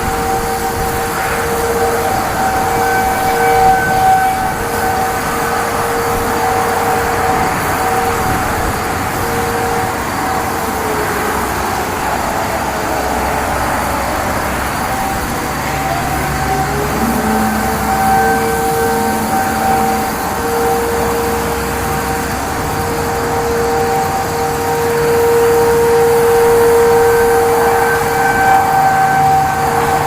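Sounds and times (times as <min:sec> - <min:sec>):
dual-tone warning siren: 0:00.0 - 0:30.0
road traffic: 0:00.0 - 0:30.0.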